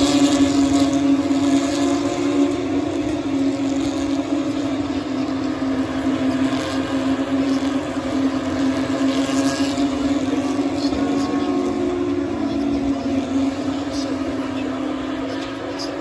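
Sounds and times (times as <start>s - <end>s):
steady machine drone: 0.0s - 16.0s.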